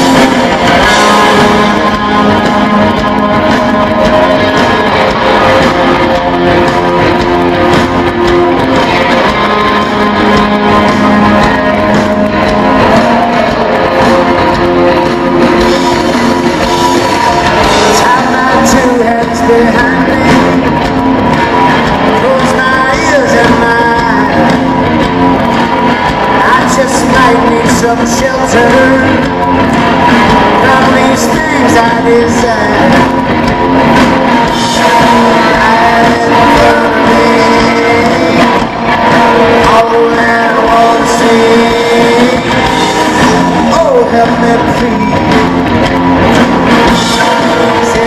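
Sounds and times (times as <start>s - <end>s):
drum kit: 0.0s - 48.0s
electric guitars: 0.0s - 48.0s.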